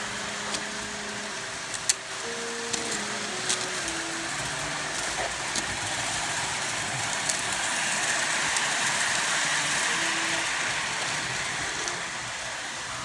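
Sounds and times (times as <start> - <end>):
model train whirring: 0.0 - 13.0.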